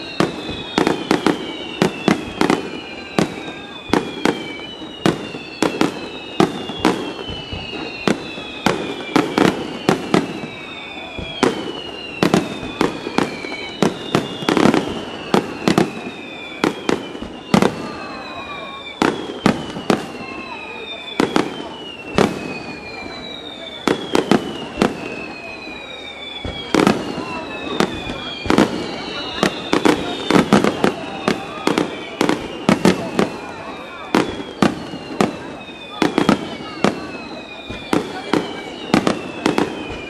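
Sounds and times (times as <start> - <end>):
firework whistles falling in pitch: 0.0 - 40.0.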